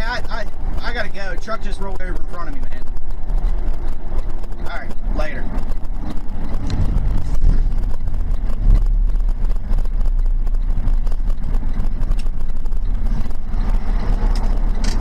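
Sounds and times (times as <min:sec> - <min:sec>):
road noise: 0:00.0 - 0:15.0
vehicle engine: 0:00.0 - 0:15.0.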